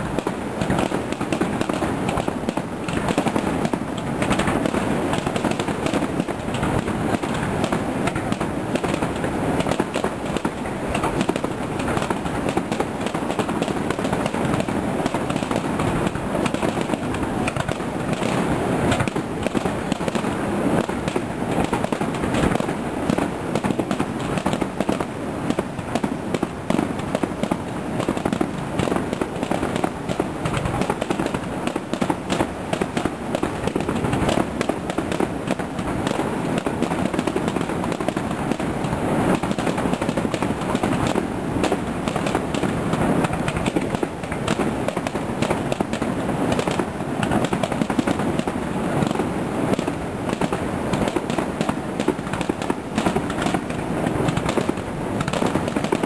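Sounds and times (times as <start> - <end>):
firework bangs and crackling: 0.0 - 56.0.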